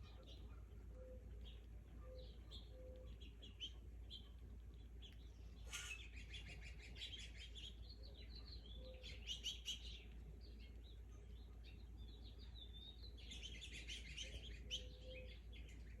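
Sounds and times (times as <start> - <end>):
faint low hum: 0.0 - 16.0
small birds chirping: 0.0 - 16.0.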